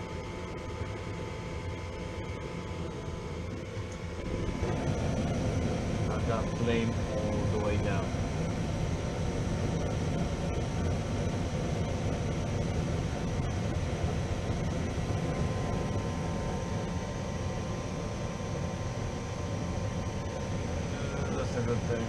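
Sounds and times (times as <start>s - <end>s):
gas furnace burner rushing: 1.9s - 22.0s.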